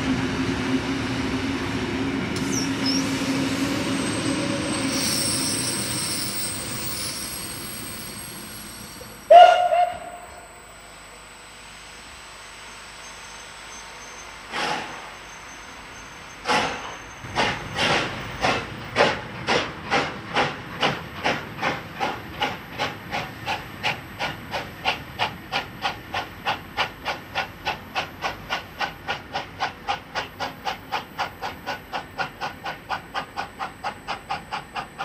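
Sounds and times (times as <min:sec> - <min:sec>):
steam locomotive exhaust chuffing: 0:02.3 - 0:35.0.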